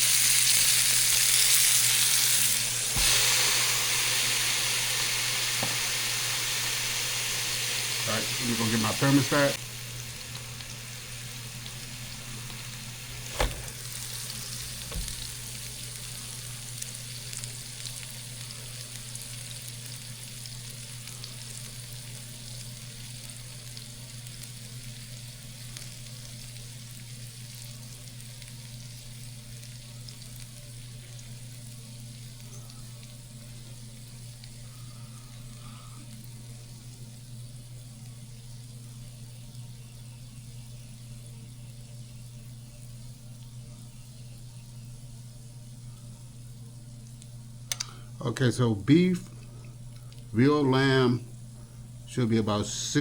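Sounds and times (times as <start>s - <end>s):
patty sizzling on a grill: 0.0s - 53.0s.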